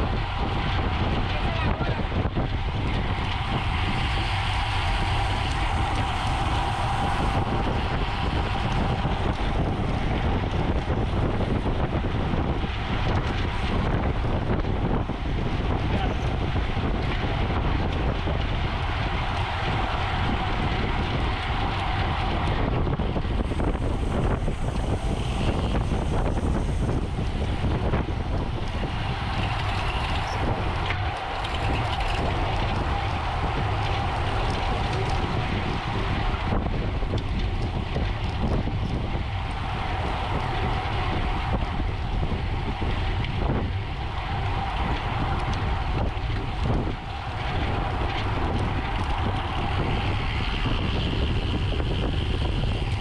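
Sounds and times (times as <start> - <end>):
even hum: 0.0 - 53.0
wind rushing over microphone: 0.0 - 53.0.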